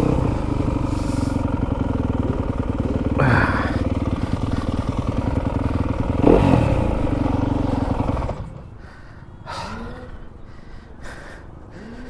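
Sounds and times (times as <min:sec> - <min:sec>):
dirt bike engine running: 0:00.0 - 0:10.0
rider breathing heavily: 0:00.0 - 0:12.0.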